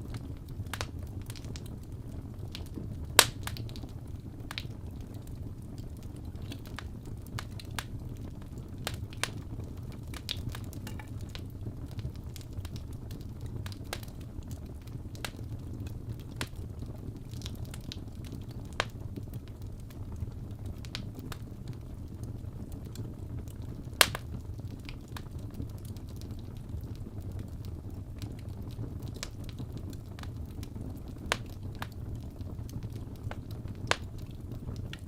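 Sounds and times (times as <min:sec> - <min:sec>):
fire crackles and pops: 0:00.0 - 0:35.0
fire rumble: 0:00.0 - 0:35.0.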